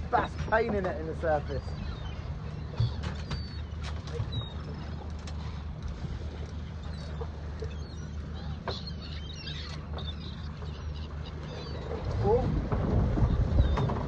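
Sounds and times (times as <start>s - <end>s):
seabirds calling: 0.0s - 14.0s
steady low rumble: 0.0s - 14.0s.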